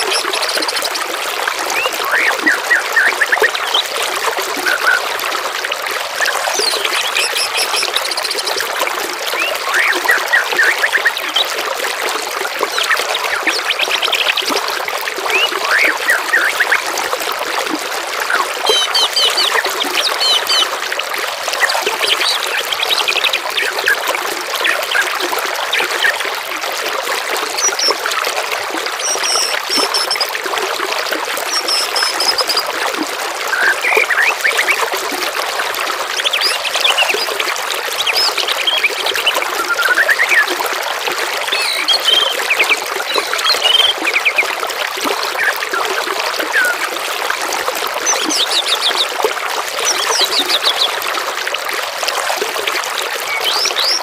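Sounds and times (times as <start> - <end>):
water trickling and babbling: 0.0 - 54.0.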